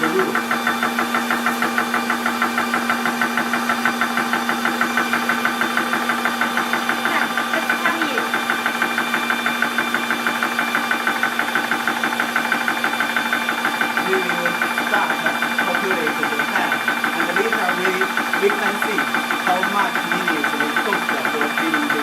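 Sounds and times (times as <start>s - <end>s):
air compressor hum: 0.0s - 22.0s
air compressor piston pumping: 0.0s - 22.0s.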